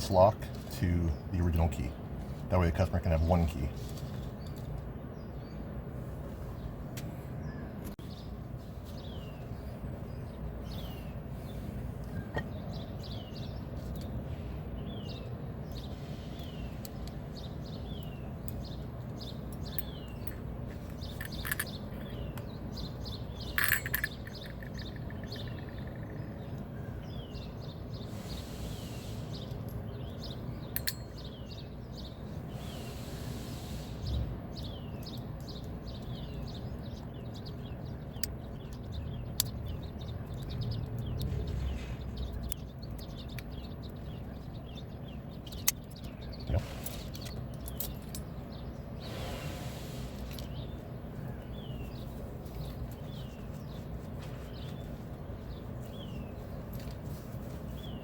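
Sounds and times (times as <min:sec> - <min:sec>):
birds chirping: 0:00.0 - 0:58.0
steady low hum: 0:00.0 - 0:58.0.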